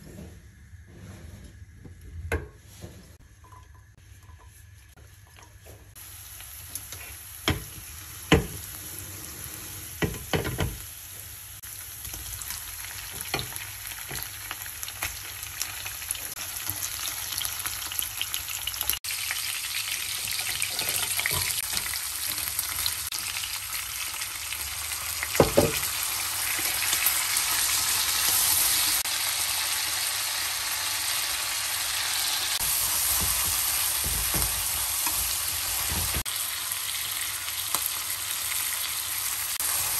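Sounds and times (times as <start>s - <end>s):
oil sizzling in a frying pan: 5.3s - 39.9s.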